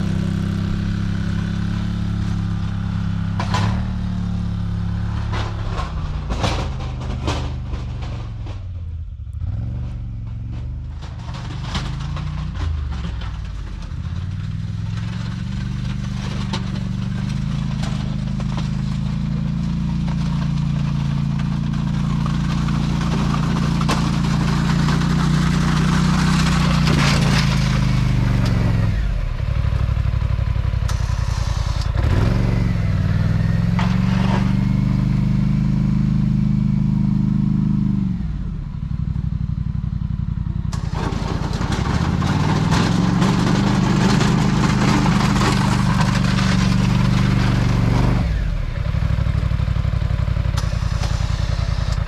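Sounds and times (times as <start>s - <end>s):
atv engine revving: 0.0s - 7.7s, 14.2s - 39.3s, 40.6s - 52.0s.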